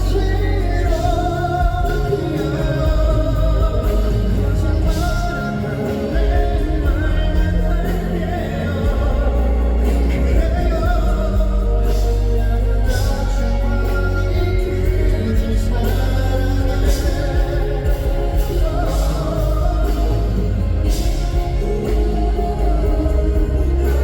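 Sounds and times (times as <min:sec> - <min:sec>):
man singing: 0:00.0 - 0:24.0
pop backing music with heavy bass: 0:00.0 - 0:24.0.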